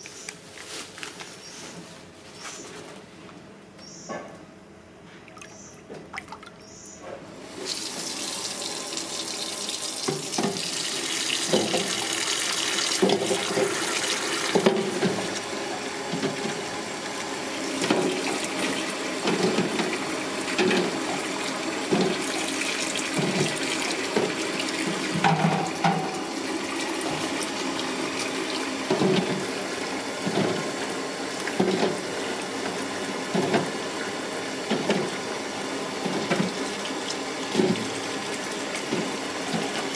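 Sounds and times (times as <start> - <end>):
tap water running into metal bowl: 7.5 - 39.9.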